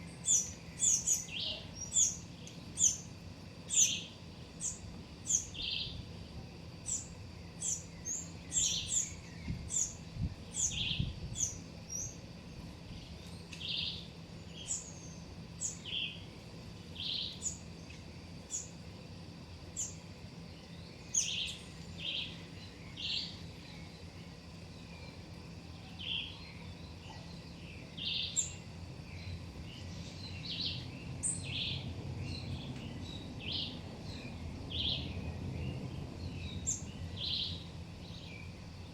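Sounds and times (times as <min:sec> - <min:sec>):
faint background hum: 0:00.0 - 0:38.9
small birds chirping: 0:00.0 - 0:38.9.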